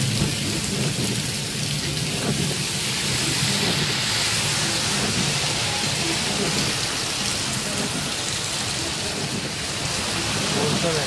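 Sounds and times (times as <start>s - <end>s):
heavy rain on a car: 0.0s - 11.0s.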